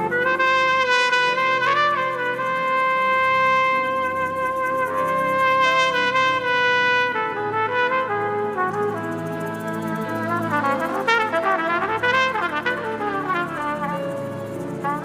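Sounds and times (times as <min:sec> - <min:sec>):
trumpet playing sustained note: 0:00.0 - 0:15.0.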